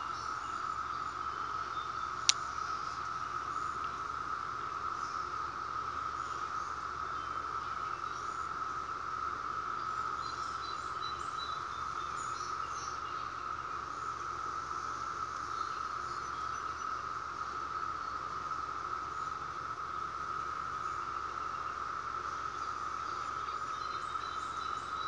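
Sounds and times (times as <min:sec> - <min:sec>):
cicadas droning: 0:00.0 - 0:25.0.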